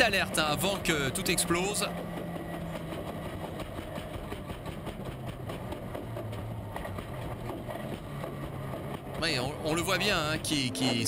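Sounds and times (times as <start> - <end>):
race car engine: 0.0 - 11.0
road and wind noise: 0.0 - 11.0.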